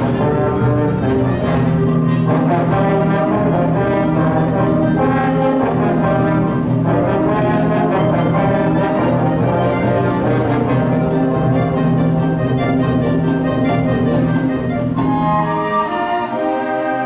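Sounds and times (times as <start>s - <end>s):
brass held chords: 0.0s - 17.0s
concert band playing: 0.0s - 17.0s.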